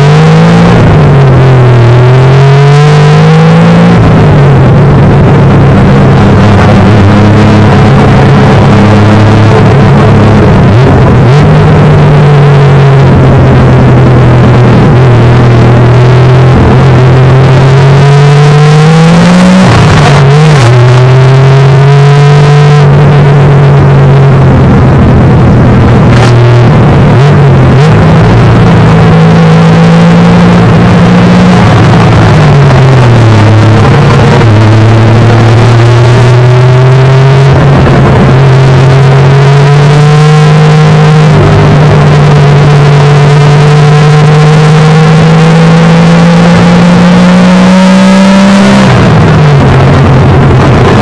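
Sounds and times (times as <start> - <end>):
race car engine revving: 0.0 - 51.0.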